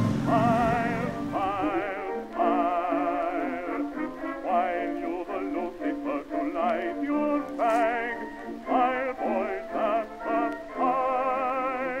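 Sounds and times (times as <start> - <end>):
singing-like melody with vibrato: 0.0 - 12.0.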